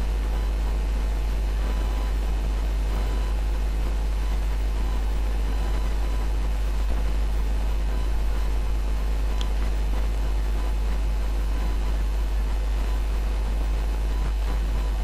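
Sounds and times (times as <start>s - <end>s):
low electrical hum with hiss: 0.0s - 15.0s.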